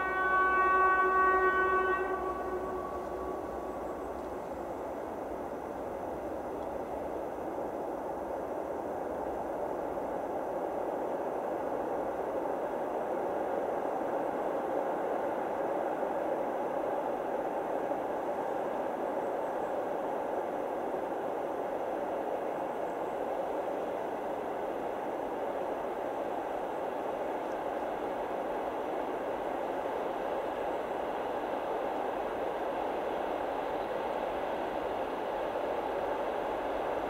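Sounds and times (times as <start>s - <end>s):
distant freight train approaching: 0.0s - 37.0s.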